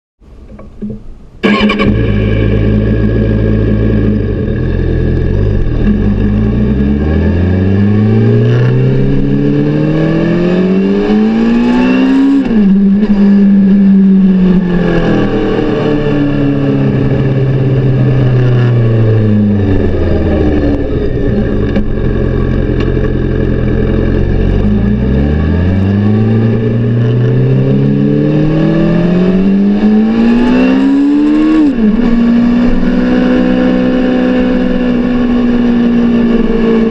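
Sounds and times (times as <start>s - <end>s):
motorcycle engine revving: 1.4s - 36.9s.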